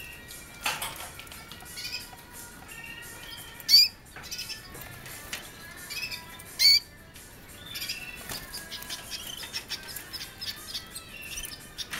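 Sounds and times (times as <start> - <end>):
canaries chirping and trilling: 0.0 - 11.9.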